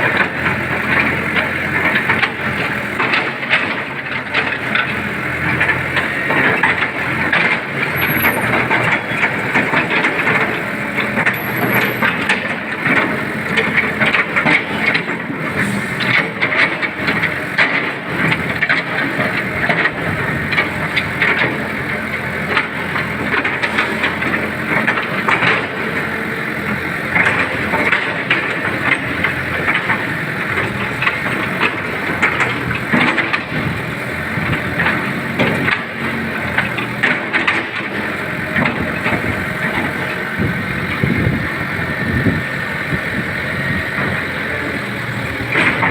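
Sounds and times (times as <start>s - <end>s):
clanks and rattles: 0.0s - 45.9s
excavator diesel engine running: 0.0s - 45.9s.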